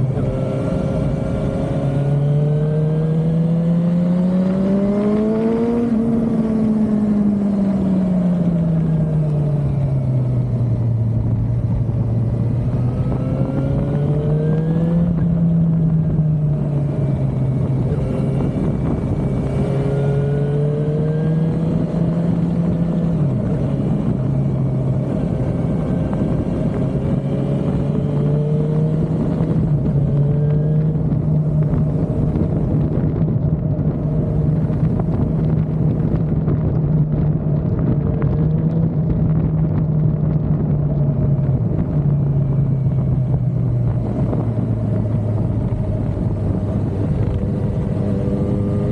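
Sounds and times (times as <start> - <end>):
motorcycle engine revving: 0.0 - 48.9
wind and road noise: 0.0 - 48.9.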